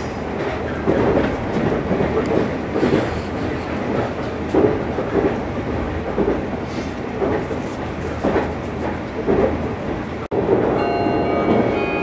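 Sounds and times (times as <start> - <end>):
train wheels rumbling on rail: 0.0 - 12.0
clatter over rail joints: 0.3 - 10.8.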